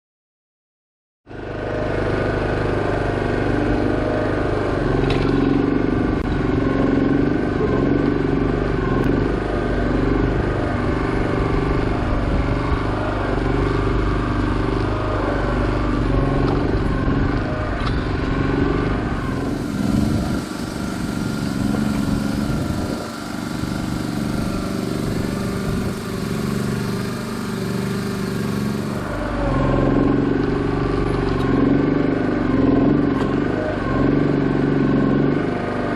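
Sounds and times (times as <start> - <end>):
small excavator engine running: 1.3 - 35.9.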